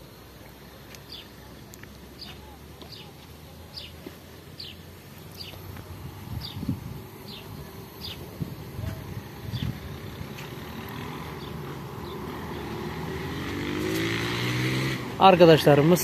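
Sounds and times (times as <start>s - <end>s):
vehicle engine accelerating: 0.4s - 16.0s.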